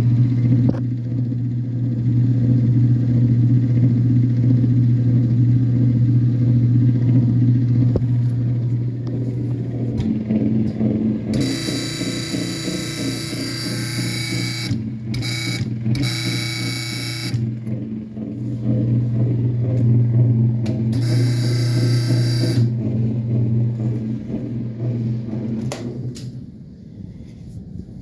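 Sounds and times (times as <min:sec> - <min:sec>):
harsh washing machine buzzing: 0:00.0 - 0:26.8
washing machine hum: 0:00.0 - 0:28.0.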